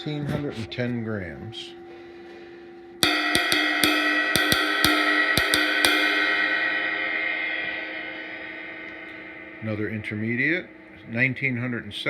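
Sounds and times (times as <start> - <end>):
cymbal struck and ringing: 0.0 - 12.0.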